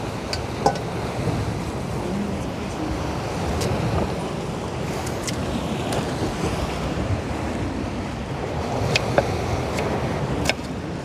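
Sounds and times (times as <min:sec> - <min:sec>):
sea surf on rocks: 0:00.0 - 0:11.0
wind buffeting the microphone: 0:00.0 - 0:11.0.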